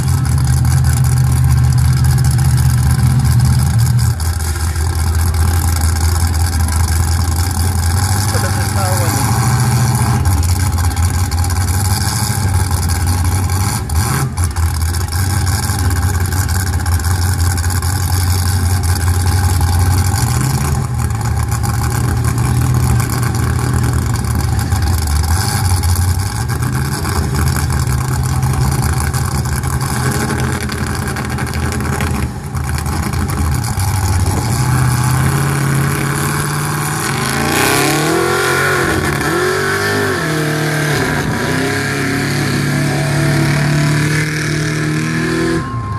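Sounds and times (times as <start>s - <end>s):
truck engine idling and revving: 0.0s - 45.9s.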